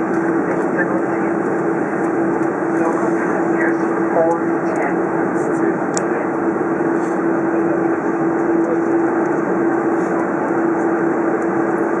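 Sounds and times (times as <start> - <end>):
airplane cabin rush: 0.0 - 12.0
constant low hum: 0.0 - 12.0.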